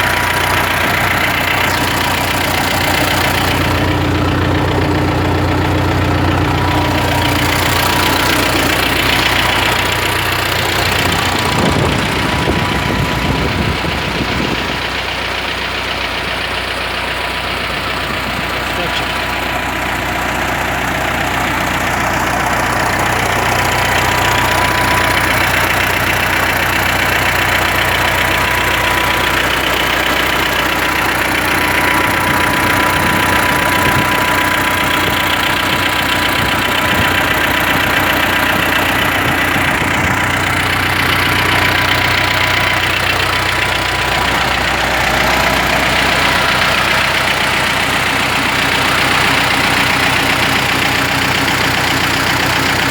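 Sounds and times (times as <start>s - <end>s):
tractor diesel engine idling: 0.0s - 52.9s.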